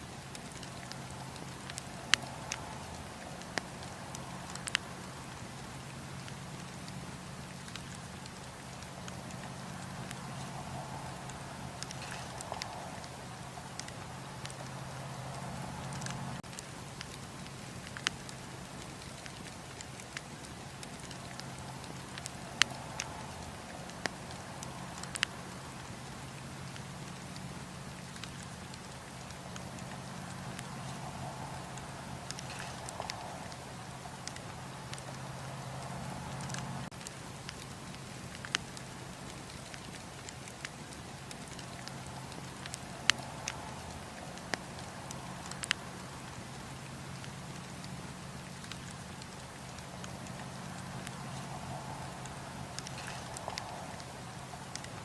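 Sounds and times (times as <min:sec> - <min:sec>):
campfire crackling and popping: 0:00.0 - 0:55.0
low rush of flames: 0:00.0 - 0:55.0.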